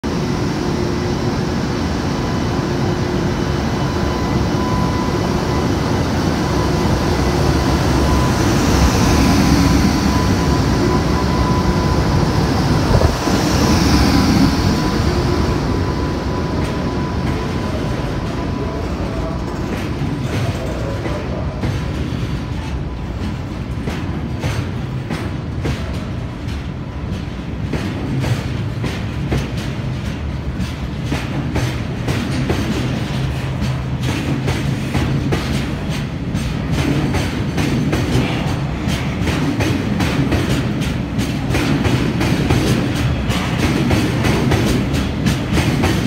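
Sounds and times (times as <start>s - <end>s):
electric locomotive passing: 0.0s - 46.0s.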